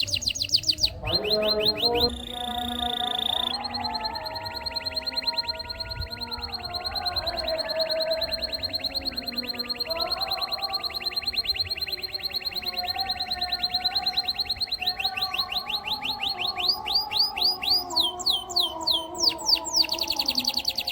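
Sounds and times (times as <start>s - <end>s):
canary singing trill: 0.0s - 20.9s.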